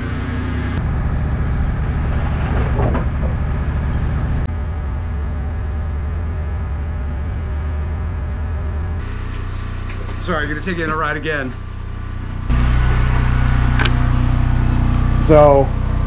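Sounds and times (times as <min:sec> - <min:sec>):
sawmill engine humming: 0:00.0 - 0:16.0.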